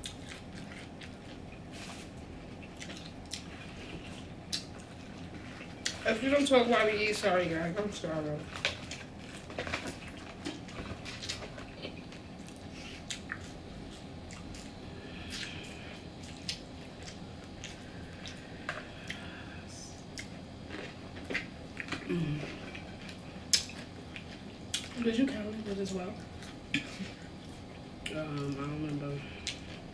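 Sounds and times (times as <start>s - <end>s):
soft wet chewing: 0.0s - 29.9s.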